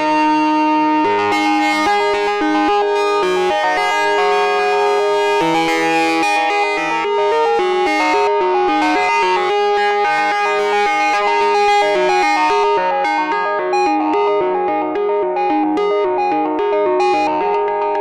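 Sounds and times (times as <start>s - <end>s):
sequenced synth melody: 0.0s - 18.0s.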